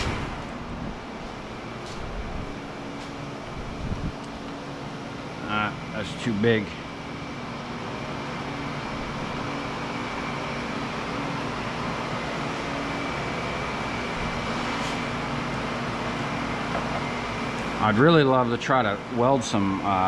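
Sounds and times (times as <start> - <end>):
faint high whine: 0.0 - 20.0
machine hum: 0.0 - 20.0.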